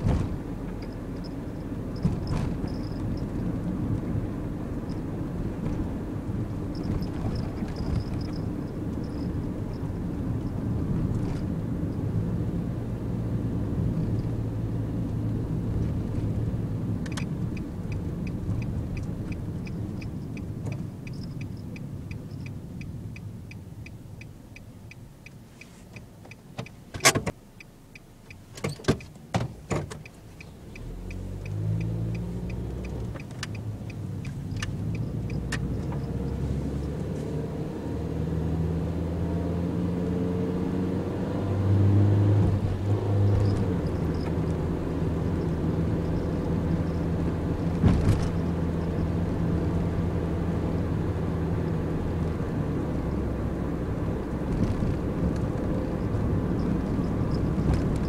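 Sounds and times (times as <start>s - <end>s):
van engine accelerating: 0.0s - 27.4s, 28.1s - 58.0s
turn signal ticking: 0.4s - 12.9s, 13.6s - 37.0s, 42.4s - 51.1s, 51.8s - 58.0s.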